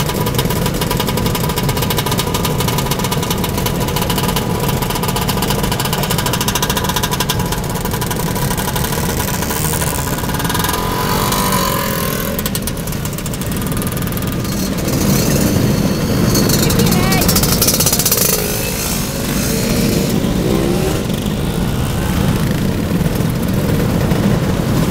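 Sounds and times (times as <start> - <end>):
many scooter engines running: 0.0 - 24.9.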